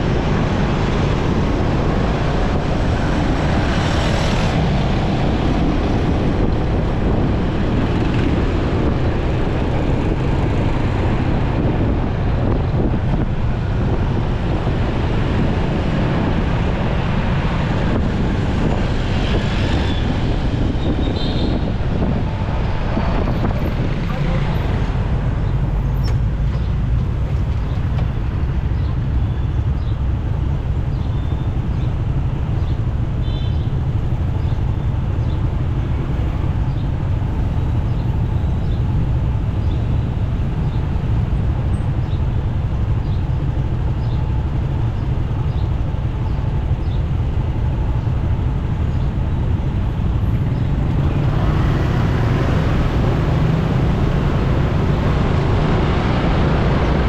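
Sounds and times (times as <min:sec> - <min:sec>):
motorcycle engine rumble: 0:00.0 - 0:57.0
surrounding traffic: 0:00.0 - 0:57.0.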